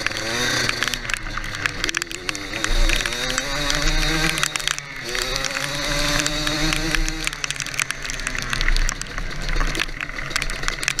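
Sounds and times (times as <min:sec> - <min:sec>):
atv engine running: 0:00.0 - 0:11.0
quick rattles and clicks: 0:00.0 - 0:11.0.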